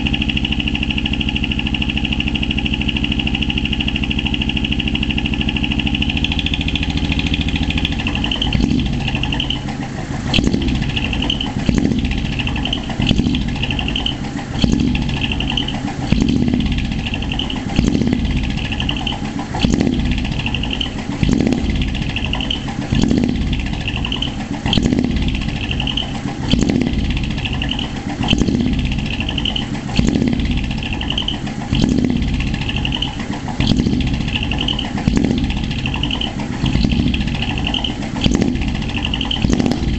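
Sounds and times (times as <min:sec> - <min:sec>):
diesel engine deep beat: 0:00.0 - 0:39.9.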